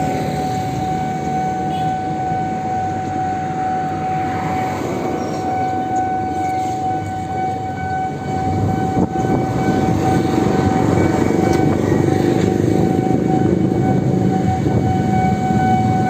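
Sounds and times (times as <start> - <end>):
electric motorbike whine: 0.0 - 16.0
road and wind noise: 0.0 - 16.0.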